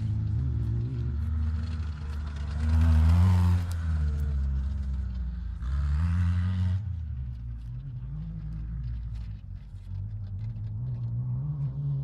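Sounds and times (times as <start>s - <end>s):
off-road buggy engine revving: 0.0s - 12.0s.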